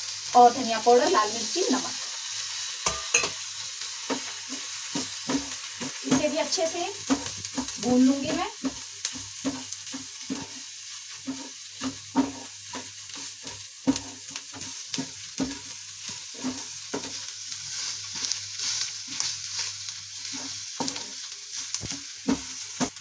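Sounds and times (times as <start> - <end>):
frying sizzle: 0.0 - 23.0
wooden spatula scraping a pan: 3.8 - 23.0.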